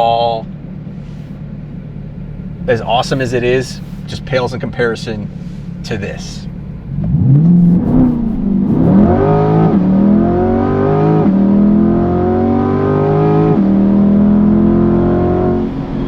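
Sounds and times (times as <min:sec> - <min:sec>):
car engine accelerating hard: 0:00.4 - 0:16.0.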